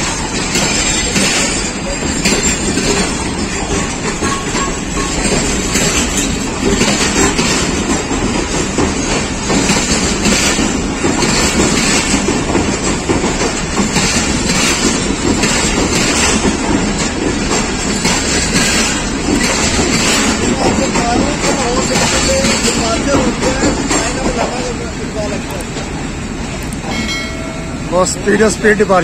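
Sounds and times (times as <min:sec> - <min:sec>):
train coaches rumbling past: 0:00.0 - 0:29.0
wheels clattering over rail joints: 0:00.0 - 0:29.0.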